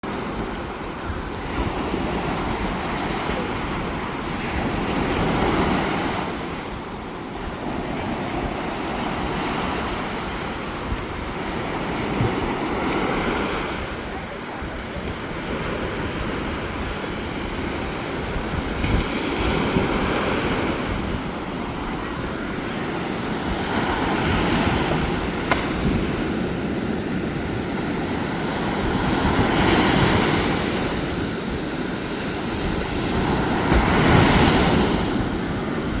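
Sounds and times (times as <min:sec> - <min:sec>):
sea waves breaking on beach: 0:00.0 - 0:36.0
wind buffeting microphone: 0:00.0 - 0:36.0.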